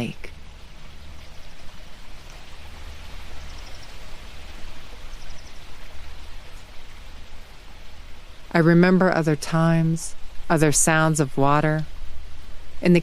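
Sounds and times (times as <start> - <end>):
steady rain patter: 0.0 - 13.0.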